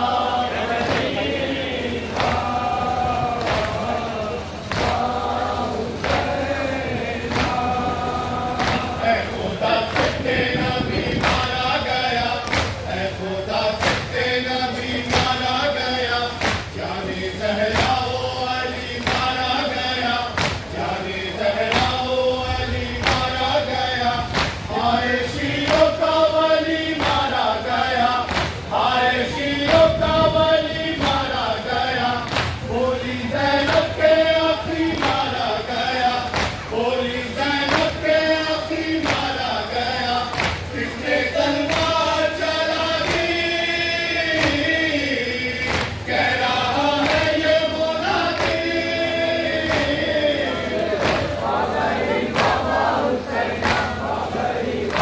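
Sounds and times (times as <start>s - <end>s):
crowd of men chanting: 0.0s - 55.0s.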